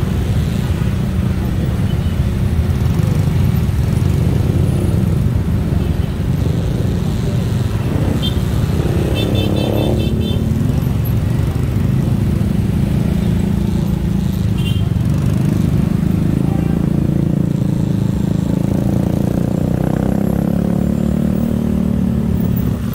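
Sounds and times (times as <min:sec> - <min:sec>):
road rumble: 0:00.0 - 0:22.9
small motorcycle engine: 0:00.0 - 0:22.9.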